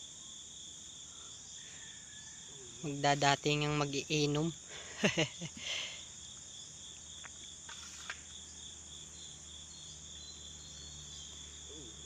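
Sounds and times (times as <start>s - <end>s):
insect chorus chirring: 0.0s - 12.0s.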